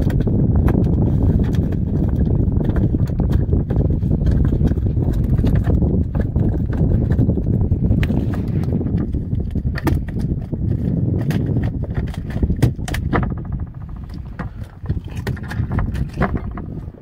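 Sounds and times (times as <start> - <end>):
low rumble of wind: 0.0 - 17.0.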